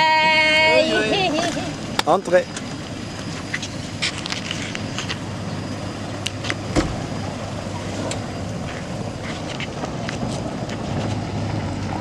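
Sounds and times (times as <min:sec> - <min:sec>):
minivan engine idling: 0:00.0 - 0:12.0.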